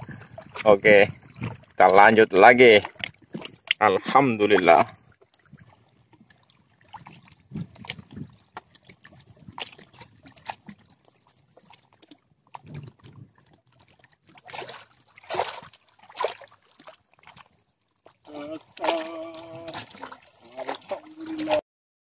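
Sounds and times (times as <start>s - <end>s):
small waves lapping and splashing: 0.0s - 21.6s.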